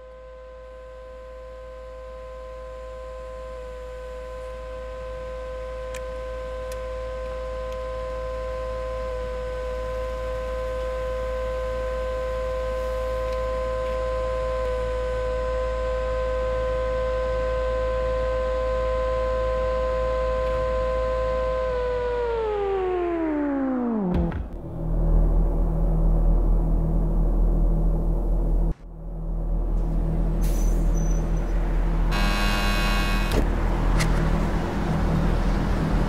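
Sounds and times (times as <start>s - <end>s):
electronic drone chord: 0.0s - 30.4s, 31.4s - 36.0s
low hum: 0.0s - 36.0s.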